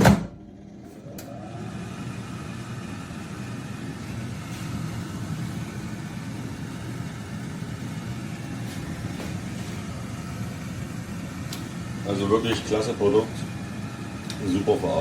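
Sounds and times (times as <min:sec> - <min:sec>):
air fryer fan whirring: 0:00.0 - 0:15.0.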